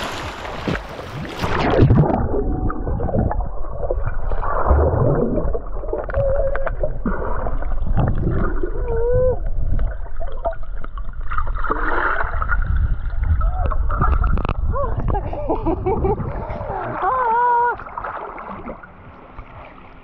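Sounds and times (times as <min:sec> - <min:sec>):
water splashing: 0:00.0 - 0:15.2, 0:16.0 - 0:20.0
muffled underwater sloshing and bubbling: 0:00.0 - 0:20.0.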